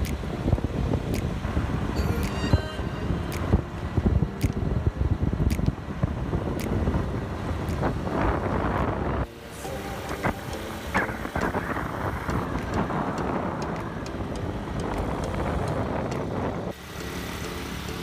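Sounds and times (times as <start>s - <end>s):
wind rushing over microphone: 0.0s - 16.8s.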